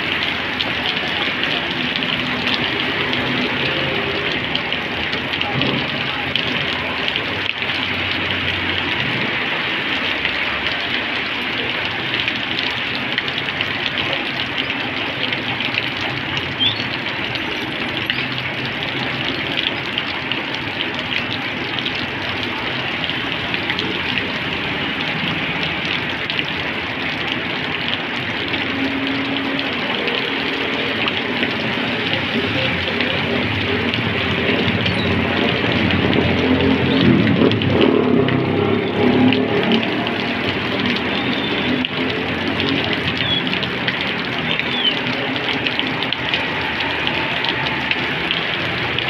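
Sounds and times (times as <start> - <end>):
heavy rain on flooded road: 0.0 - 49.0
scooter engines passing: 0.0 - 49.0.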